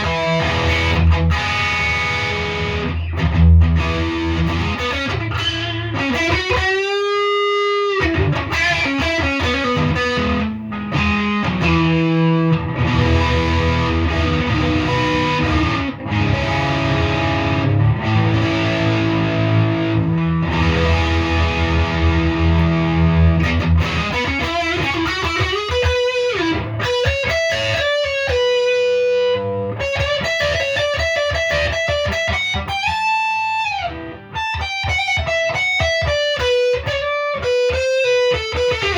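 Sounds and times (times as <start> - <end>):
overdriven electric guitar: 0.0 - 38.9.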